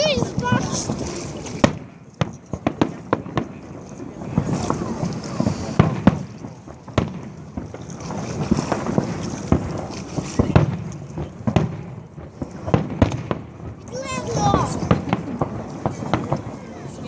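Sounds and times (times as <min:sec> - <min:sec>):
fireworks booms and cracks: 0:00.0 - 0:17.0.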